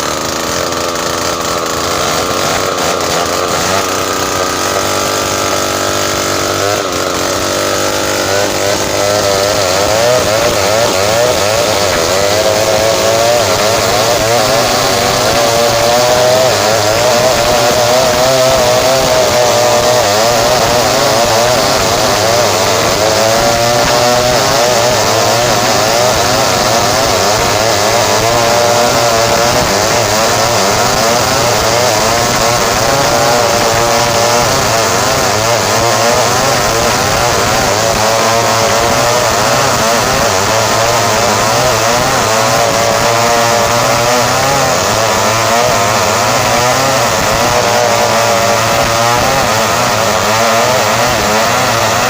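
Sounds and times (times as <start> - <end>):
chainsaw sawing through wood: 0.0 - 52.0.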